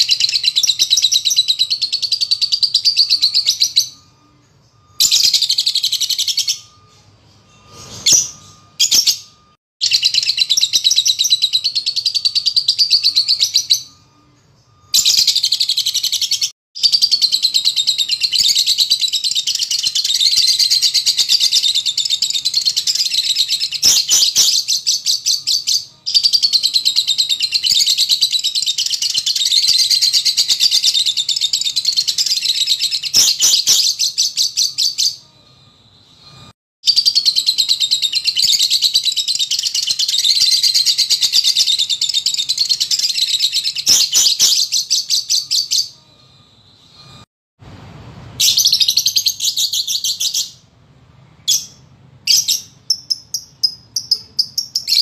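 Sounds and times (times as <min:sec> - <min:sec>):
lovebird high-pitched trilling: 0:00.0 - 0:35.5, 0:36.3 - 0:46.2, 0:48.4 - 0:50.7, 0:51.4 - 0:55.0.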